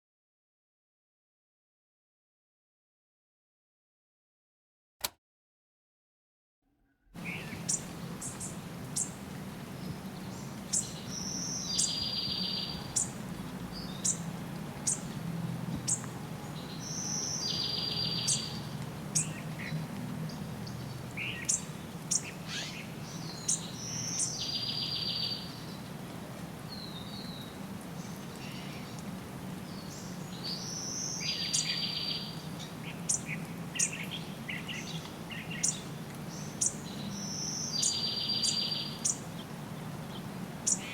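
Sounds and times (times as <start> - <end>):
songbirds chirping: 7.2 - 40.9.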